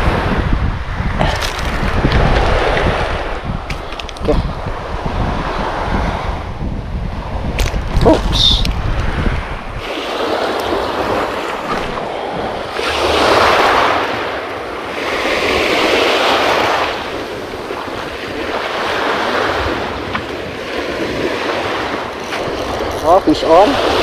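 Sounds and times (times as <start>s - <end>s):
waves washing up gravel beach: 0.0s - 5.9s, 7.4s - 24.0s.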